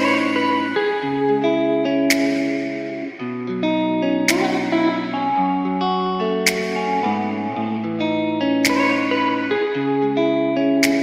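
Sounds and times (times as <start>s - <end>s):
guitar chords with echo: 0.0s - 11.0s.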